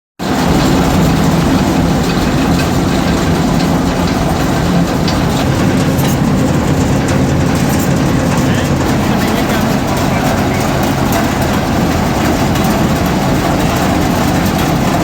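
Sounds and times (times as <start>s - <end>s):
thresher droning: 0.2s - 15.0s.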